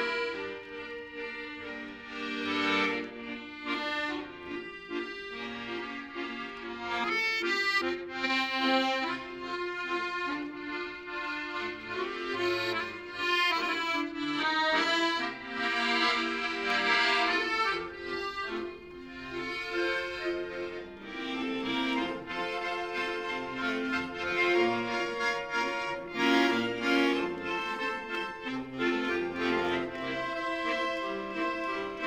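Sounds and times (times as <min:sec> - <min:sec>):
accordion melody: 0:00.0 - 0:32.0.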